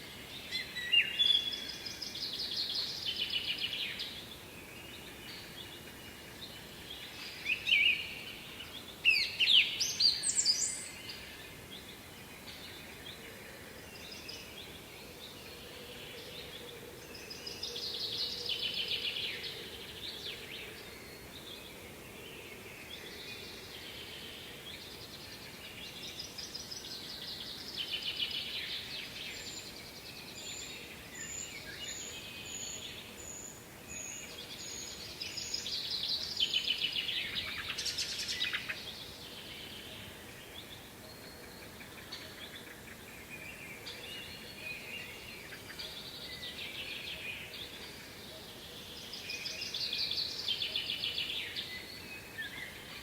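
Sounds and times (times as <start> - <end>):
faint steady hiss: 0.0 - 53.0
songbirds singing: 0.0 - 53.0.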